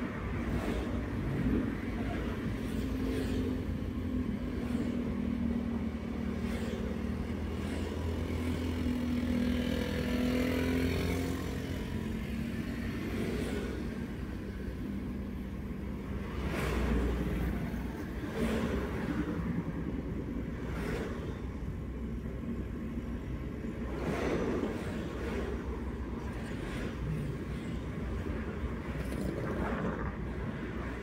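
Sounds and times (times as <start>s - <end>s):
road rumble: 0.0s - 31.0s.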